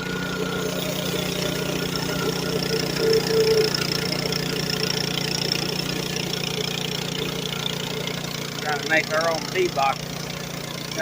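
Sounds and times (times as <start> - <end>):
sawmill engine running: 0.0 - 11.0.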